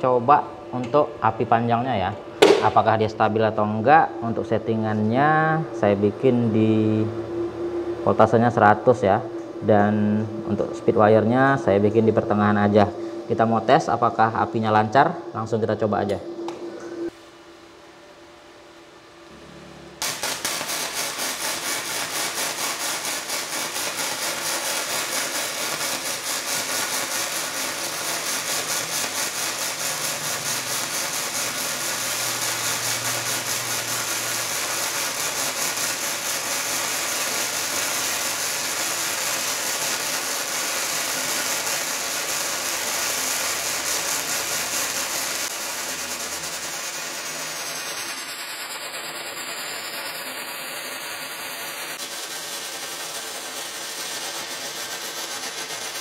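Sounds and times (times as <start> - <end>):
welding arc crackling: 0.0 - 17.2, 19.3 - 56.0.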